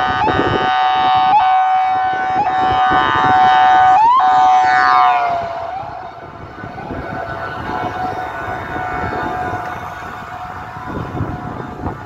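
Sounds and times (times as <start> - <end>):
police siren air-horn tone: 0.0 - 12.0
siren upward chirps: 0.0 - 12.0.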